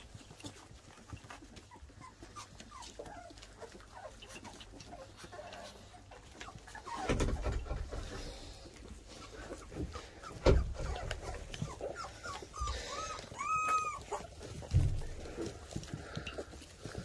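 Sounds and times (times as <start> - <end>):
puppies squeaking and whimpering: 0.0 - 17.0.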